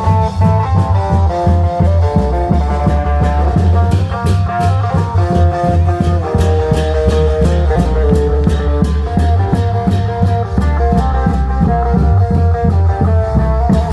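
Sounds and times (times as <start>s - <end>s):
drums bass and cymbals beat: 0.0s - 13.9s
electric lute melody: 0.0s - 13.9s.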